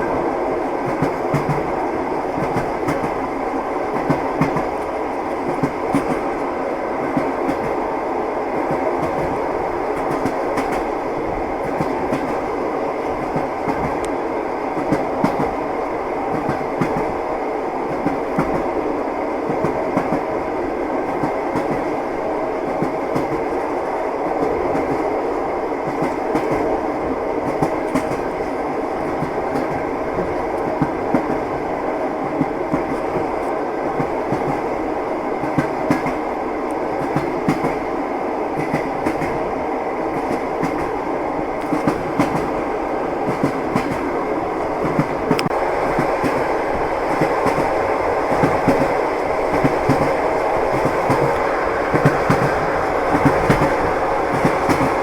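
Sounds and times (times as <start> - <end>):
train wheels clattering on rails: 0.0 - 37.9, 38.5 - 55.0.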